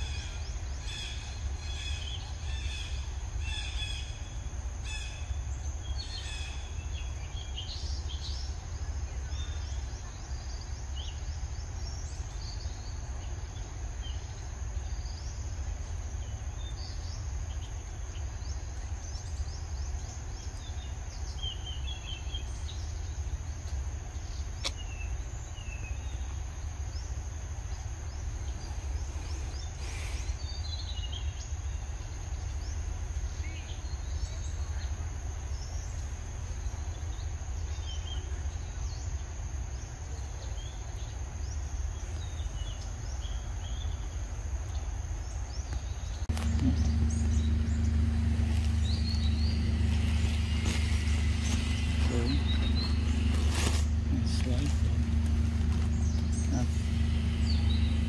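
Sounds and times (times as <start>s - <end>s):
bird chirps: 0.0s - 58.0s.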